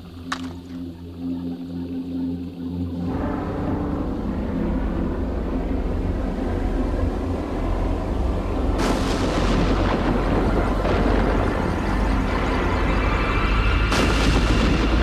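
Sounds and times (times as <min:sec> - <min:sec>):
low rumbling: 0:02.8 - 0:15.0.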